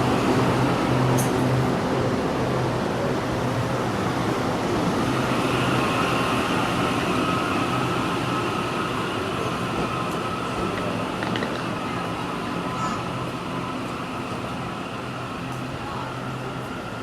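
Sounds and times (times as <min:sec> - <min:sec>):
electric train running past: 0:00.0 - 0:17.0.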